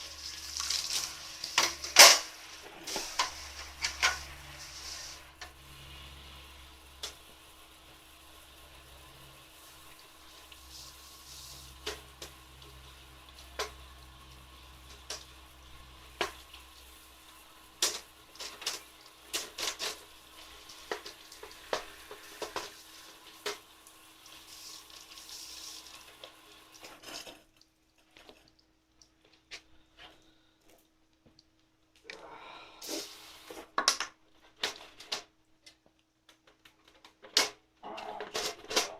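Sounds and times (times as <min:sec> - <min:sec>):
running water rinsing stove: 0:00.0 - 0:30.4, 0:32.8 - 0:33.8.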